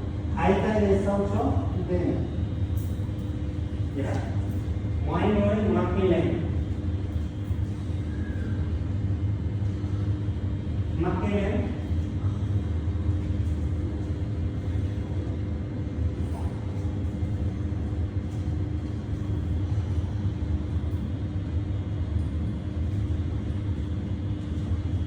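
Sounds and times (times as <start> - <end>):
constant hum: 0.0 - 25.0.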